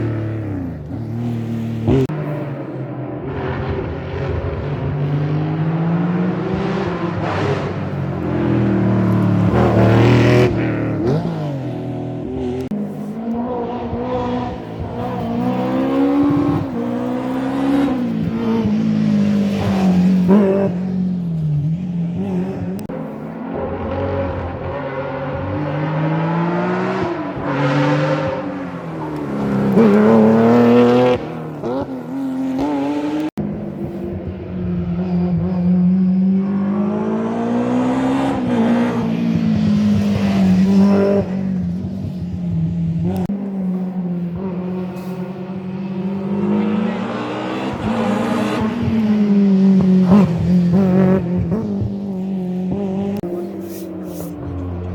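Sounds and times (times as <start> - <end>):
rally cars revving past: 0.0 - 54.9.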